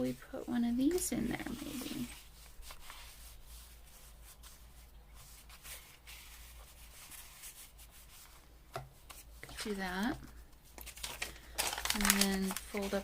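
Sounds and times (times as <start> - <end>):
paper rustling and rubbing: 0.0 - 13.0.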